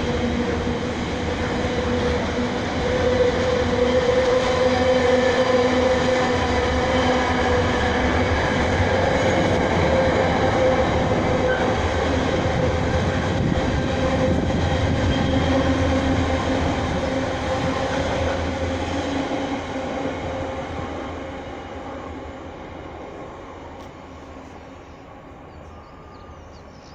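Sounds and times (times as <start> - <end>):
freight train rolling on rails: 0.0 - 26.9.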